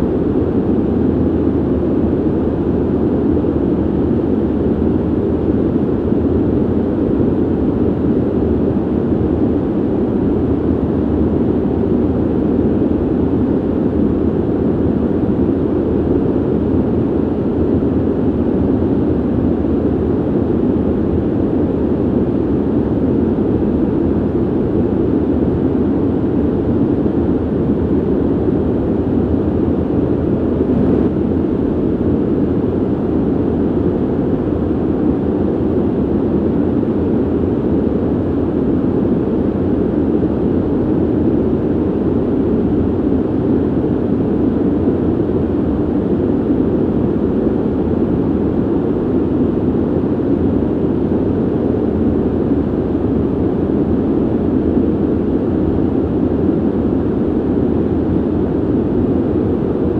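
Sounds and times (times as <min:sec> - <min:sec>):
ventilation air rushing: 0:00.0 - 0:59.9.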